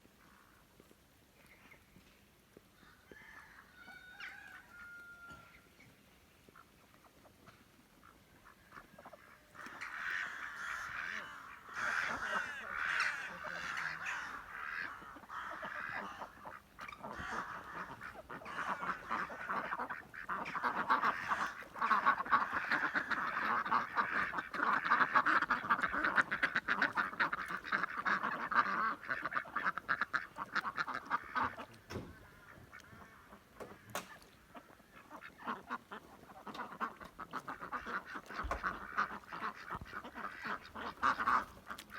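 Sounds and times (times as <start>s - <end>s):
flock of birds chattering: 2.8s - 41.9s.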